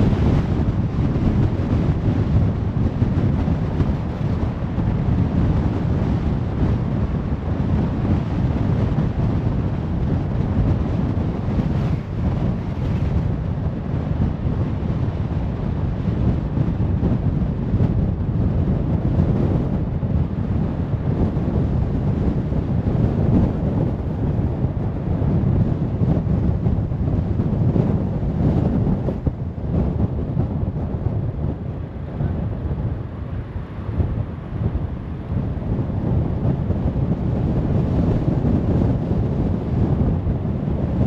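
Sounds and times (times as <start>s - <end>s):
tyre and wind road noise: 0.0s - 41.0s.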